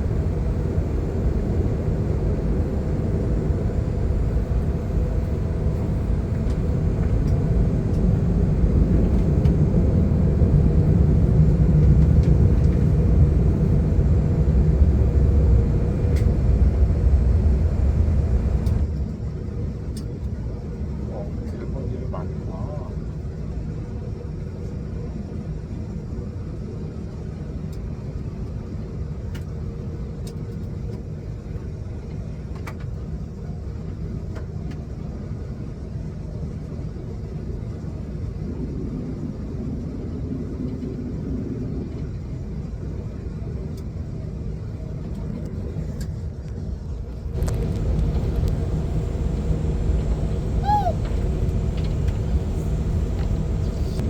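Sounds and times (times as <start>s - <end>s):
airliner cabin rumble: 0.0s - 28.8s, 30.8s - 54.0s.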